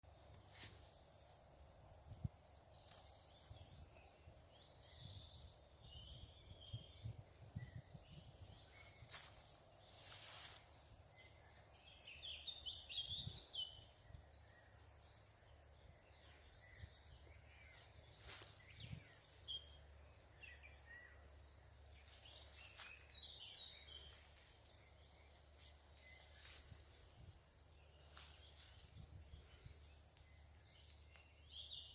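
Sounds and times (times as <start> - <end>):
faint birdsong: 0.0 - 31.9.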